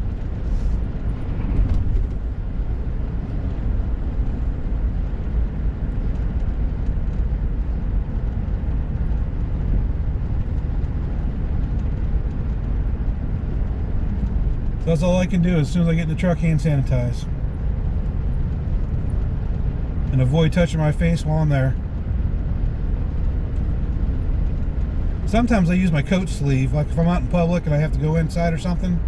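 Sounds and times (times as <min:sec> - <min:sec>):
road and engine rumble: 0:00.0 - 0:29.0.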